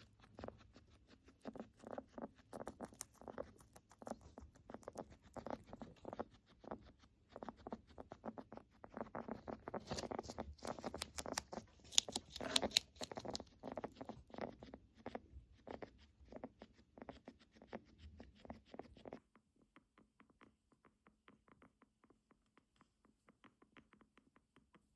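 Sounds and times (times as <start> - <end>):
guinea pig crackling breathing: 0.0 - 24.7.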